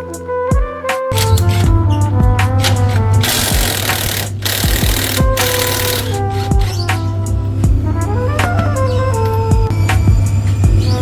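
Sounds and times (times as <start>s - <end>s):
melody of held notes: 0.0s - 11.0s
drum beat: 0.5s - 8.8s, 9.5s - 11.0s.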